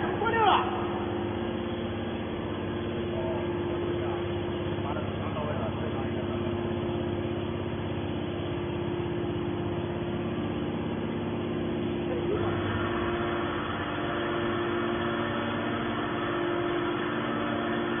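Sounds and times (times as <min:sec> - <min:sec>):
hydraulic motor and pump humming: 0:00.0 - 0:18.0.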